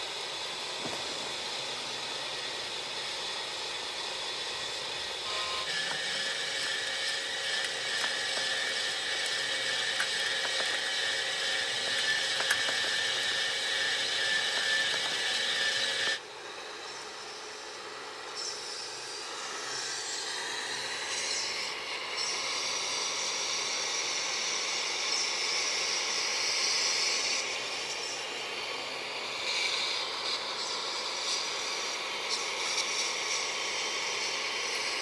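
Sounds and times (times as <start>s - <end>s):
conveyor belt motor whine: 0.0s - 35.0s
model machines hiss and hum: 0.0s - 35.0s.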